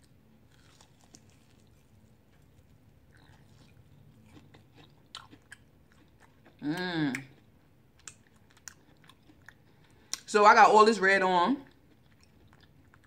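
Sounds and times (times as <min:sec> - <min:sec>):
person chewing crunchy food: 0:00.0 - 0:10.3, 0:11.6 - 0:13.0.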